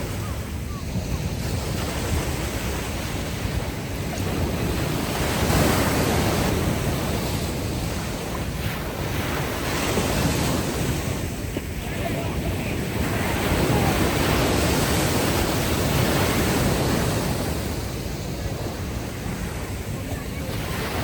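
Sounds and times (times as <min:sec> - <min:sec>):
ocean waves washing ashore: 0:00.0 - 0:21.0.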